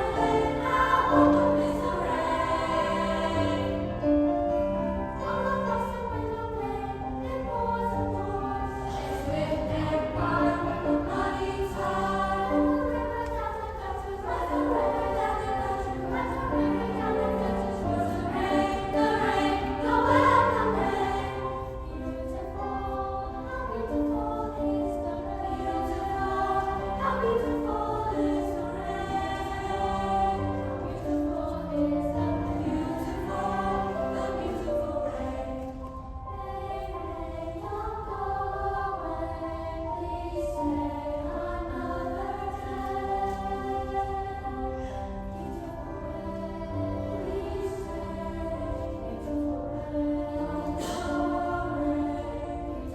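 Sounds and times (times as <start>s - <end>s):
youth choir singing with accompaniment: 0.0s - 52.9s.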